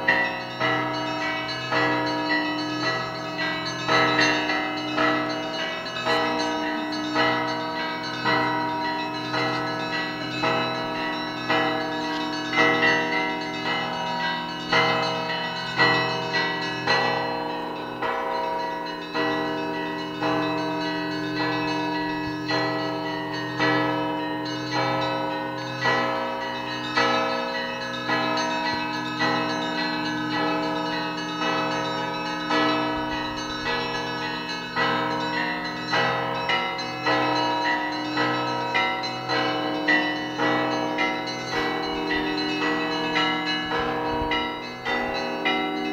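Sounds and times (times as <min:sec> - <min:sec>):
church bells ringing: 0:00.0 - 0:45.9
low hum of big bells: 0:00.0 - 0:45.9.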